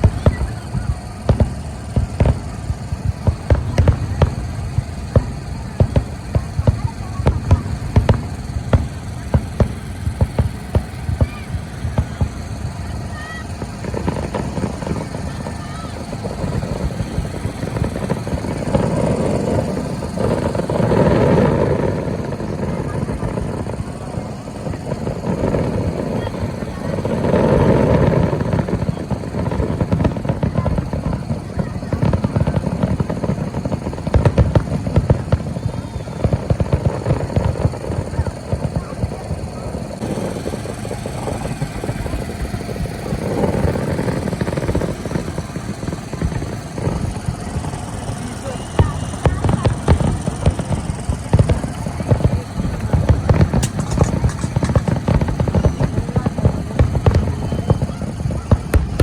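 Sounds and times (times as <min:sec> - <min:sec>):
fireworks banging and crackling: 0:00.0 - 0:59.0.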